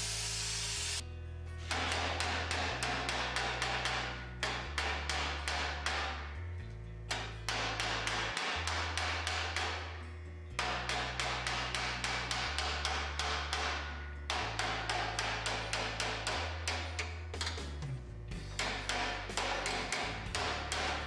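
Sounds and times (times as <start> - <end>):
hammer tapping sheet steel: 1.6 - 6.3, 7.1 - 10.0, 10.6 - 17.8, 18.4 - 21.0.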